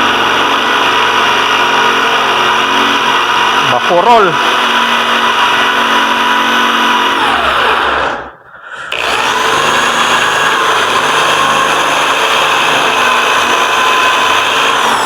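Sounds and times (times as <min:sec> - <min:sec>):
electric drill boring wood: 0:00.0 - 0:15.0.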